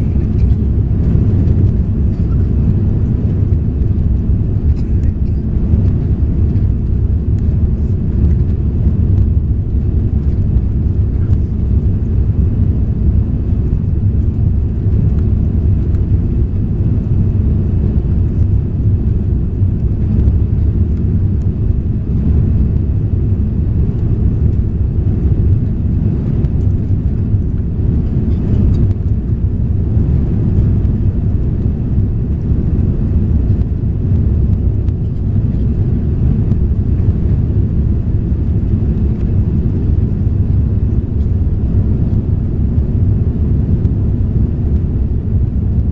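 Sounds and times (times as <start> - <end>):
aircraft cabin rumble: 0.0 - 45.9.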